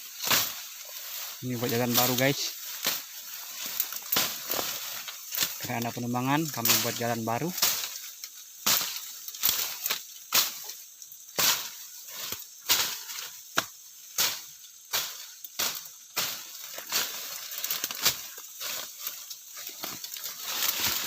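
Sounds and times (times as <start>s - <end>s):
footsteps crunching through dry leaves: 0.0s - 21.0s
leaves rustling: 0.0s - 21.0s.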